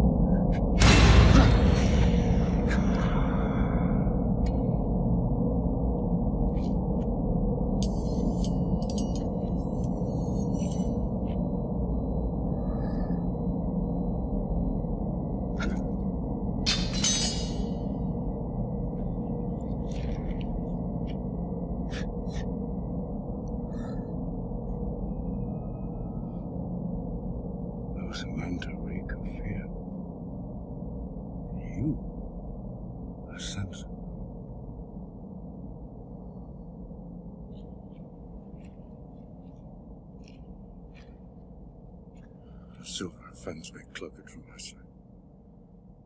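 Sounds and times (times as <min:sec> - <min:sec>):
low rumbling drone: 0:00.0 - 0:46.0.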